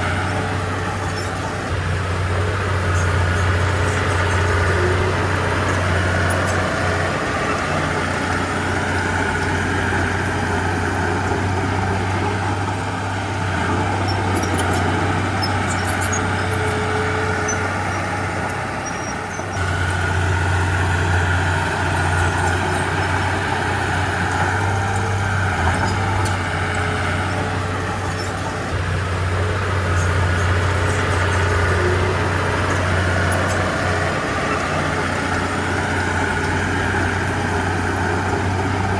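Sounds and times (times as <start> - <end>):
heavy diesel machinery engine: 0.0 - 38.9.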